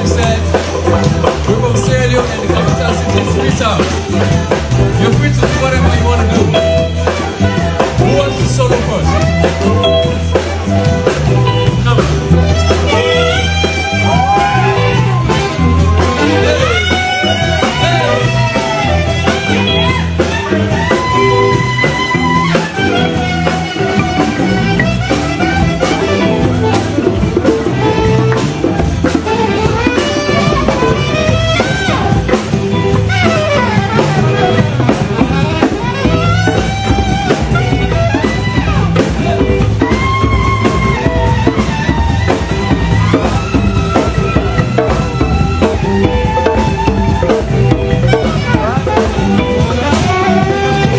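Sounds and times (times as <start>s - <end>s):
band playing: 0.0s - 50.9s
drum kit groove: 0.0s - 50.9s
lead instrument solo: 0.0s - 50.9s.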